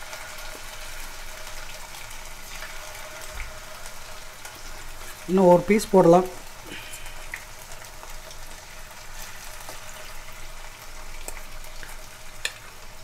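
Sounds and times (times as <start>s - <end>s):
chicken sizzling and crackling in oil: 0.0s - 13.0s.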